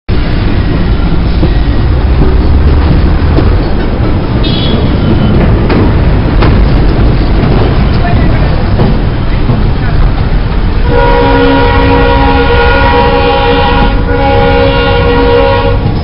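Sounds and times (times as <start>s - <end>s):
train wheels rumbling on track: 0.1s - 16.0s.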